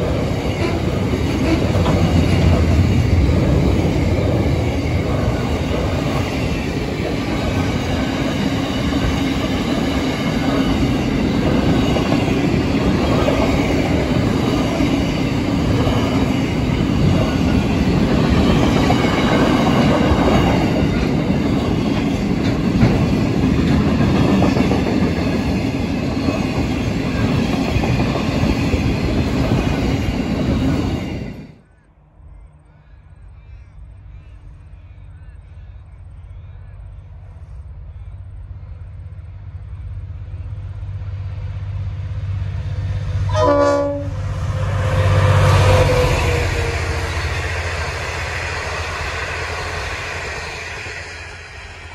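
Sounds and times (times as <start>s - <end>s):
freight train wheels on rail: 0.0s - 51.9s.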